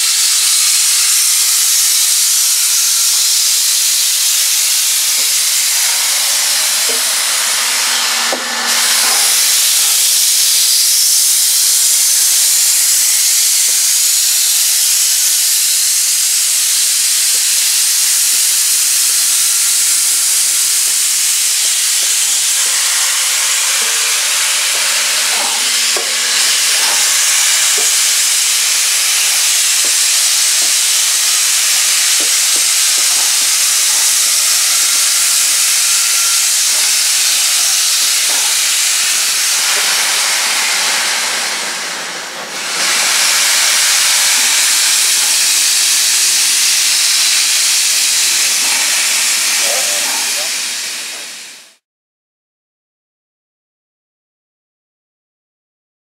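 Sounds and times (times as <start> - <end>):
steam hissing: 0.0 - 51.8.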